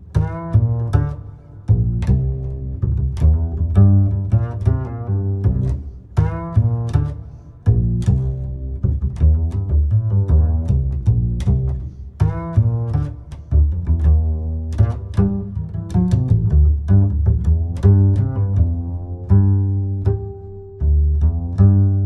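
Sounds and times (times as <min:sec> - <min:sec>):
string bass lines: 0:00.0 - 0:22.0.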